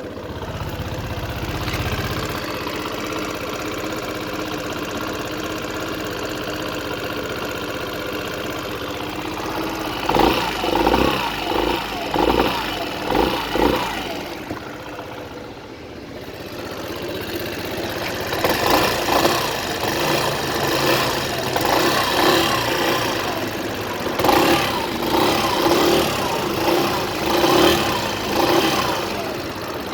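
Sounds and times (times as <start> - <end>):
regular pulsing engine noise: 0.0 - 29.9
scooter engine running: 0.0 - 29.9.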